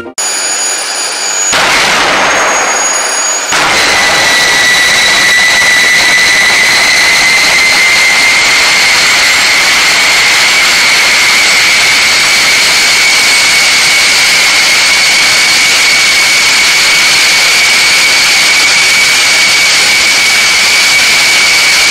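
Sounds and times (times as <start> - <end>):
jet engine roaring with whine: 0.0 - 21.9.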